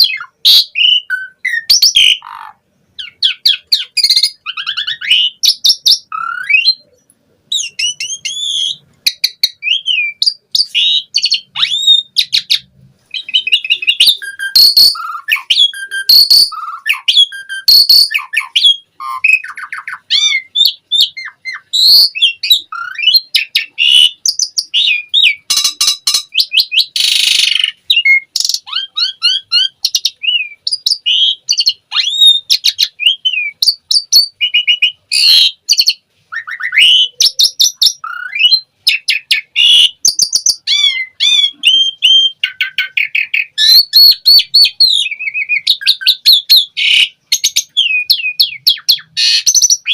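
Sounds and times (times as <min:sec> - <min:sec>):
starling singing: 0:00.0 - 0:49.9.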